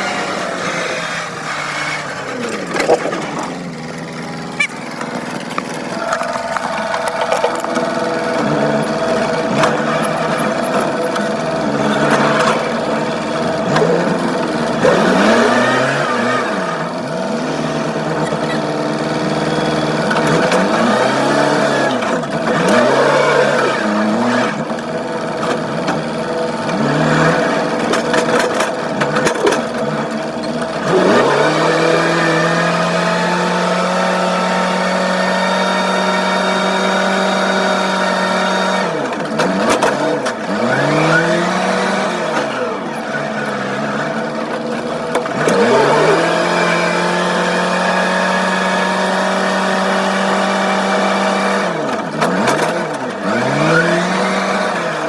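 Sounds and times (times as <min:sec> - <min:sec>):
machine engine revving: 0:00.0 - 0:55.0.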